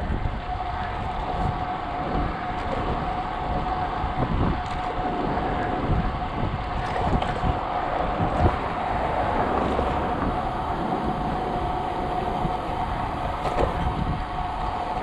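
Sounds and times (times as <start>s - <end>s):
steady thin tone: 0.0s - 15.0s
wind buffeting microphone: 0.0s - 15.0s.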